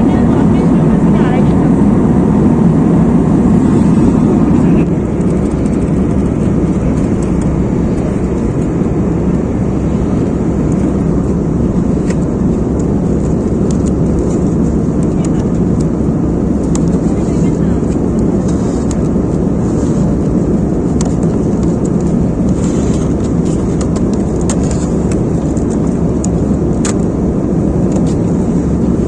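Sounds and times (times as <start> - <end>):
vehicle rumble from inside: 0.0 - 29.0.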